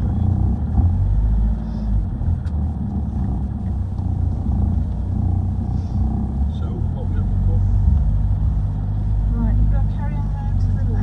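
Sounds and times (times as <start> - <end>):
van engine and road noise: 0.0 - 11.0.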